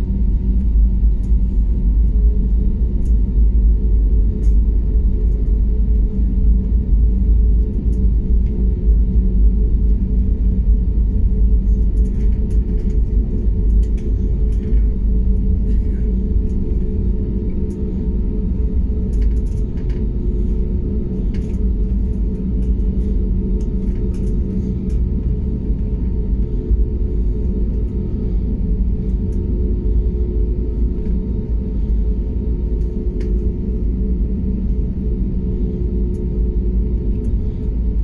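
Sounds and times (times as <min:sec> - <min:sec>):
aircraft engines humming: 0:00.0 - 0:38.0.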